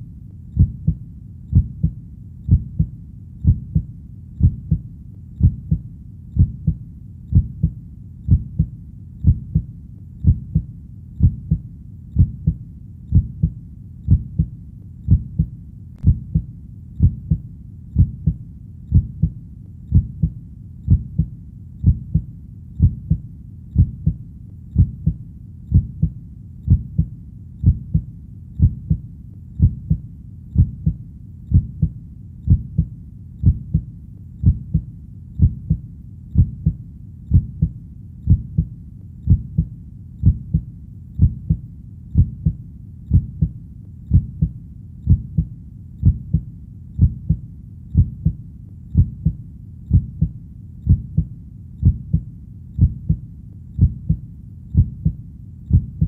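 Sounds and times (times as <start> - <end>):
faint low background hum: 0.0 - 56.0.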